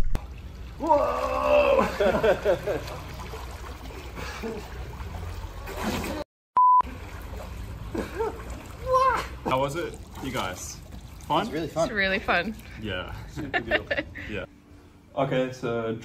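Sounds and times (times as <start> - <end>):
pool water sloshing: 0.0 - 6.2, 6.8 - 14.0.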